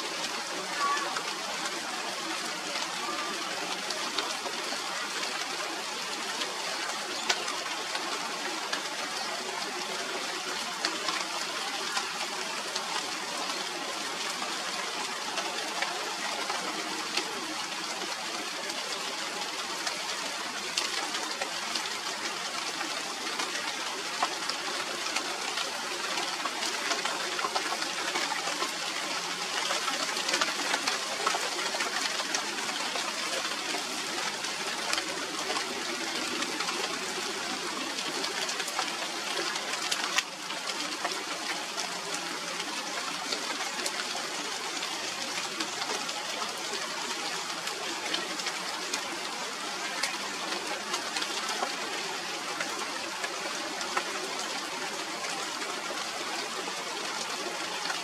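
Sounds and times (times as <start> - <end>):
rain falling on leaves: 0.0 - 58.0.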